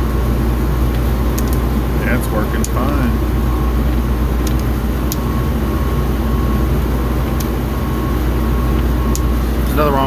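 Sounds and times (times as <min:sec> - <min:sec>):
faint high whine: 0:00.0 - 0:10.0
machine humming: 0:00.0 - 0:10.0.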